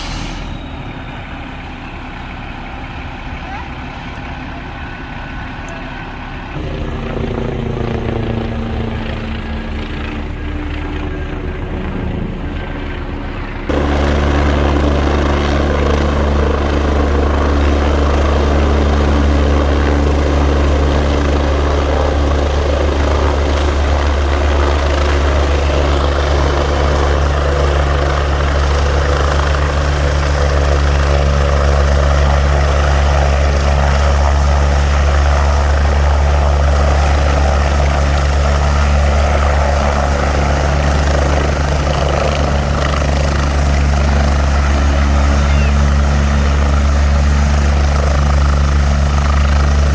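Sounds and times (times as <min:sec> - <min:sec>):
helicopter rotor and engine drone: 0:00.0 - 0:49.9.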